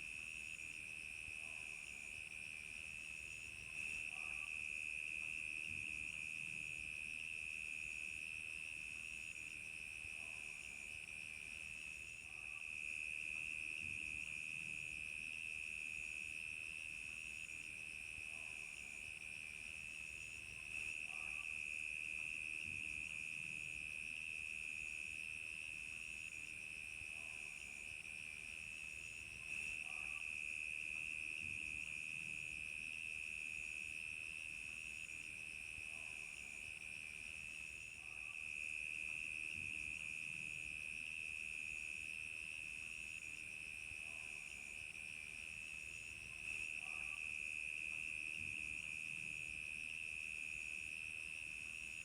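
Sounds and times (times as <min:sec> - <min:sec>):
crickets chirping: 0:00.1 - 0:52.0.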